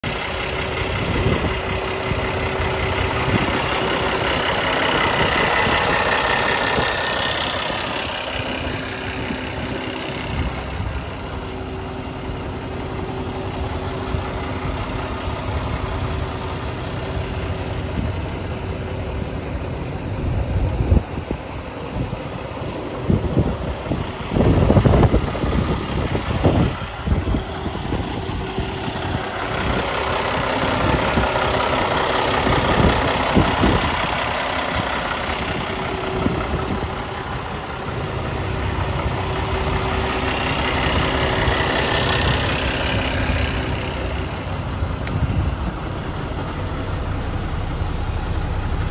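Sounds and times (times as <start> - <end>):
diesel truck engine idling: 0.0 - 48.9
wind buffeting microphone: 0.1 - 48.9.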